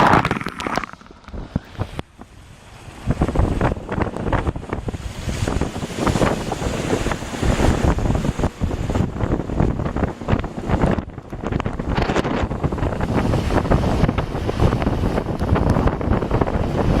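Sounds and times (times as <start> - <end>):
water rushing and splashing: 0.0 - 17.0
wind buffeting microphone: 0.0 - 17.0.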